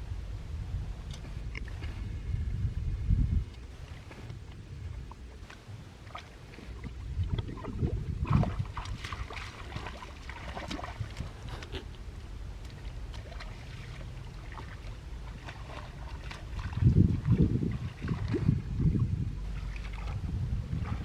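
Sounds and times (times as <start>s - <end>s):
low rumble: 0.0s - 5.9s, 6.5s - 21.0s
creek water splashing: 3.6s - 21.0s.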